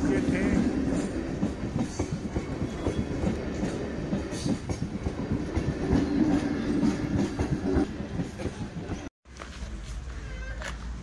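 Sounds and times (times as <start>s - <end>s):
train wheels clattering on track: 0.0s - 9.1s.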